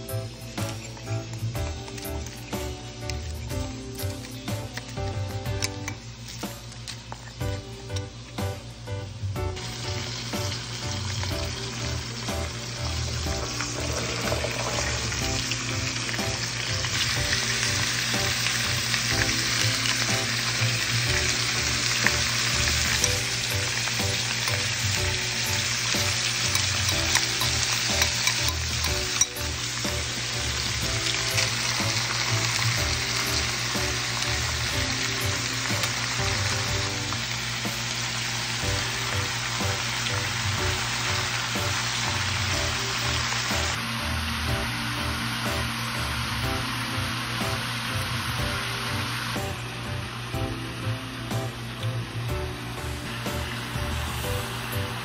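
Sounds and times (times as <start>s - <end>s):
faint background music: 0.0s - 55.0s
meat and vegetables sizzling: 0.0s - 55.0s.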